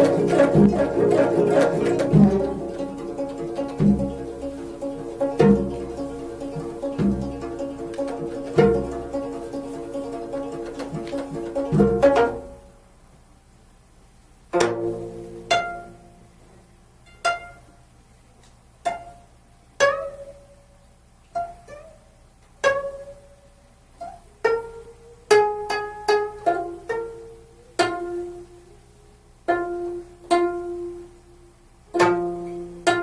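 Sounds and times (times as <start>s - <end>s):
plucked zither notes: 0.0s - 12.8s, 14.5s - 16.3s, 17.0s - 17.8s, 18.8s - 33.0s.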